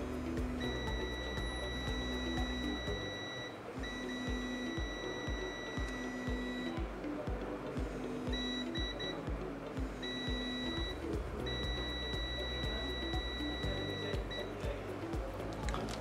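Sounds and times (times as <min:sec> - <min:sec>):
multimeter continuity beeps: 0:00.0 - 0:15.3
background music with steady beat: 0:00.0 - 0:16.0.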